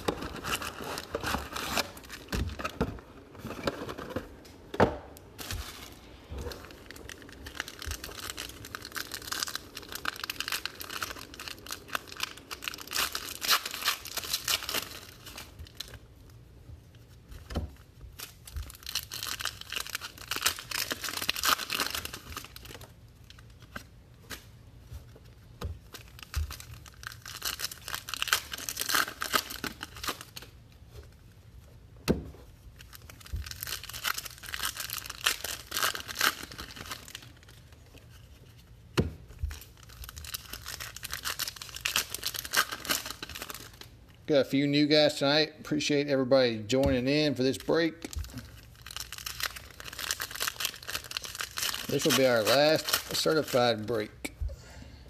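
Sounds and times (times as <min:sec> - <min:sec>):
plastic wrapping crinkling: 0:00.0 - 0:44.9, 0:47.0 - 0:54.1.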